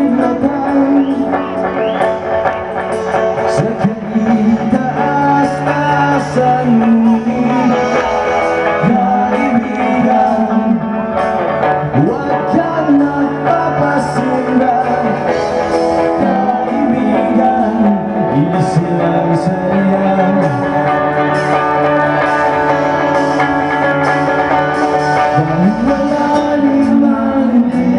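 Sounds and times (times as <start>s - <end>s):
guitar: 0.0s - 27.9s
live rock band playing: 0.0s - 27.9s
person singing: 0.0s - 27.9s.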